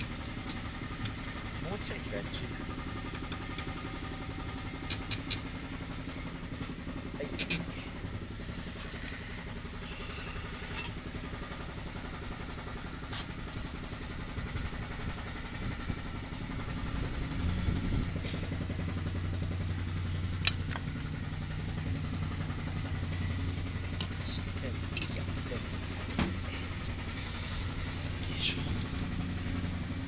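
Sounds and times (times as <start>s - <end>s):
low mechanical rumble: 0.0s - 30.0s
motor humming: 0.0s - 30.0s.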